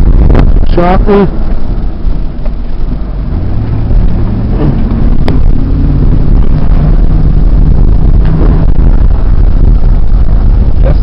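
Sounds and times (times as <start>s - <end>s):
loud low engine drone: 0.0s - 11.0s.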